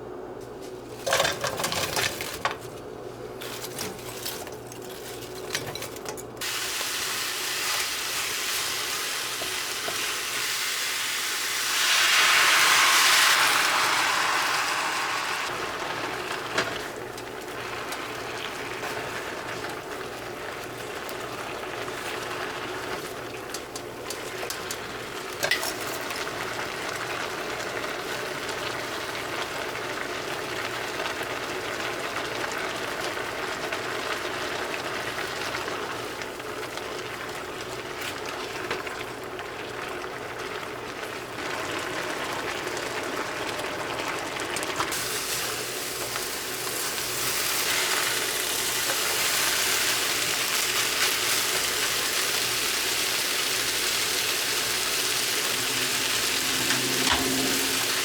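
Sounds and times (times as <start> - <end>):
food sizzling in a frying pan: 6.4 - 58.0.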